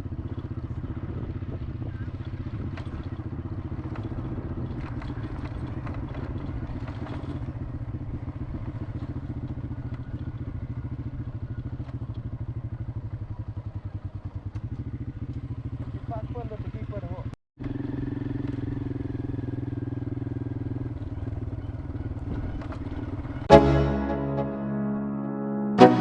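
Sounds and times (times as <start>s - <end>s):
motorcycle engine running: 0.0s - 23.5s.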